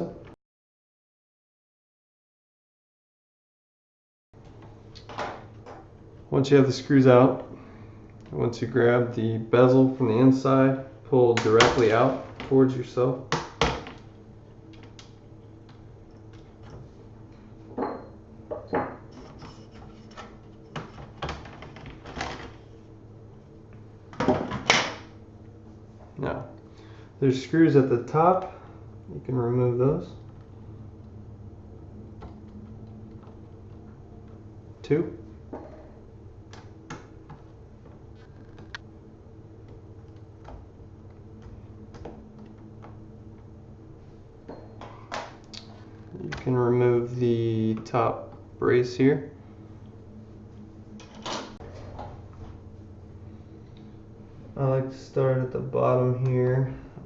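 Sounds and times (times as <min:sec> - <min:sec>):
faint steady hum: 0:04.4 - 0:57.0.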